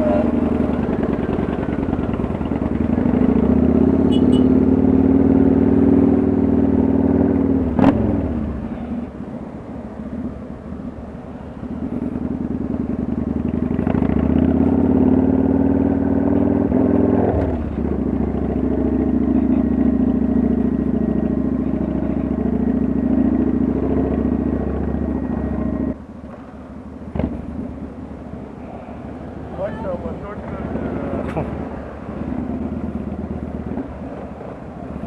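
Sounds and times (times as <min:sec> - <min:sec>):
motorcycle engine running: 0:00.0 - 0:09.1, 0:10.1 - 0:35.0.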